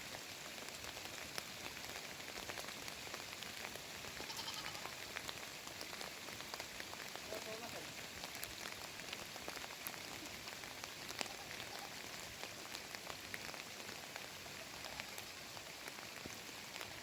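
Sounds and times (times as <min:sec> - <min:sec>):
heavy rain hissing: 0:00.0 - 0:17.0
sharp raindrop ticks: 0:00.0 - 0:17.0.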